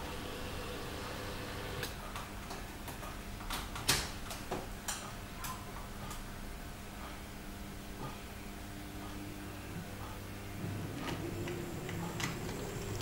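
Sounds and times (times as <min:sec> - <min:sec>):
faint electrical hum: 0:00.0 - 0:13.0
higher electrical hum: 0:00.0 - 0:13.0.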